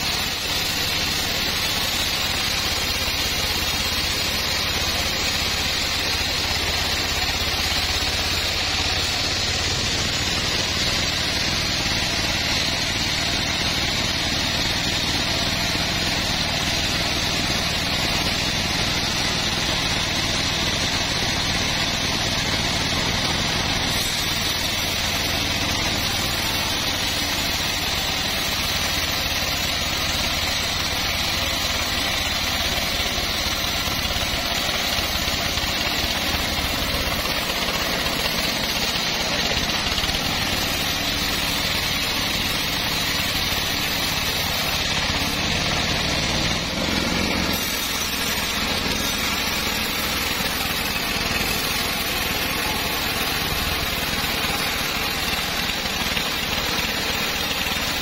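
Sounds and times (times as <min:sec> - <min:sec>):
band sawmill humming: 0:00.0 - 0:58.0
saw blade hissing through log: 0:00.0 - 0:58.0.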